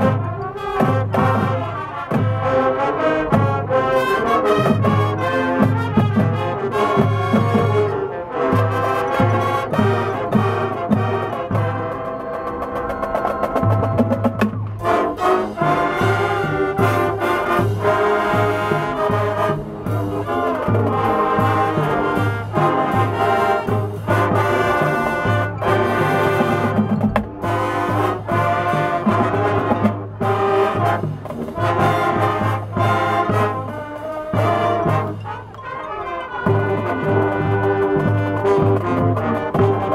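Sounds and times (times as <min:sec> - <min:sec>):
marching band playing: 0:00.0 - 0:39.9.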